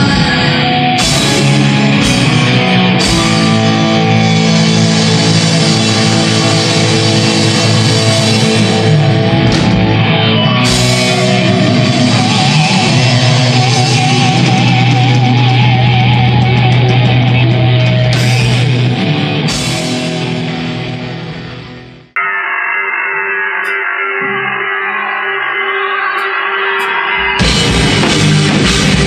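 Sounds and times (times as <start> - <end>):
heavy metal band playing: 0.0 - 29.0.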